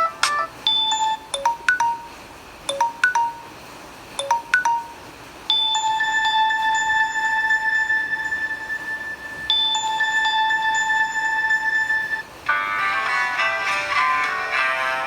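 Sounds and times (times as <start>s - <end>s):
phone ringtone chime notes: 0.0s - 3.6s, 4.2s - 13.8s.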